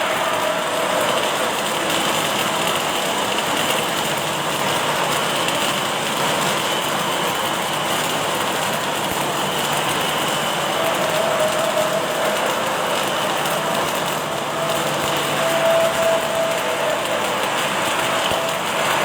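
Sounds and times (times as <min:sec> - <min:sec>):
welding machine hiss and hum: 0:00.0 - 0:19.0.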